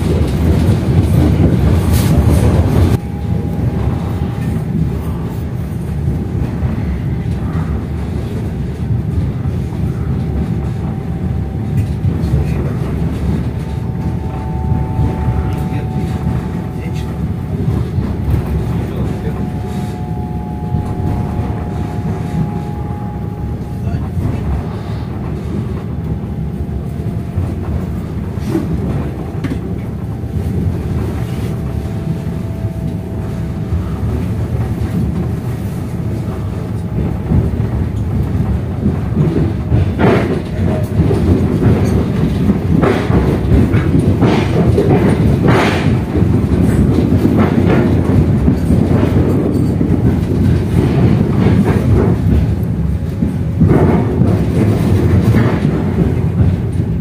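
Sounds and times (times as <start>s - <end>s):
train low rumble: 0.0s - 57.0s
wheels clacking over rail joints: 0.0s - 57.0s.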